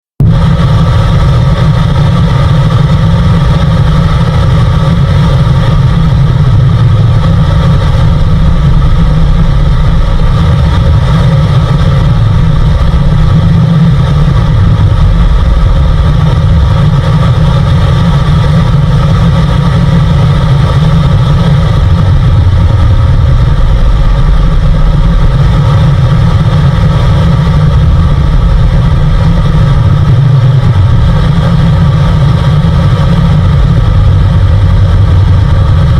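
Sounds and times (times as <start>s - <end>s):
deep steady hum: 0.0s - 35.9s
radio static: 0.2s - 35.9s.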